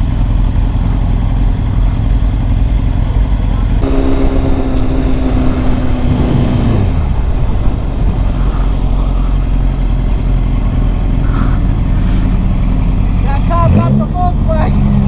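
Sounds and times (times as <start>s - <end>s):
wind on microphone: 0.0s - 13.2s
motorcycle engine running: 0.0s - 15.0s.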